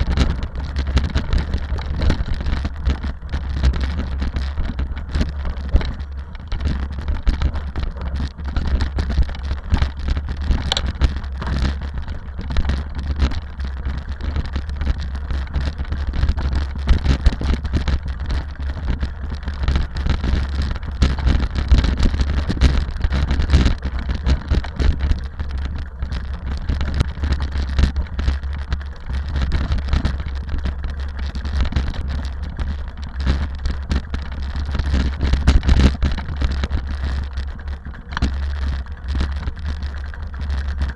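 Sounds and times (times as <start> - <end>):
car engine and road rumble: 0.0 - 40.9
small rattles and clicks: 0.0 - 40.9.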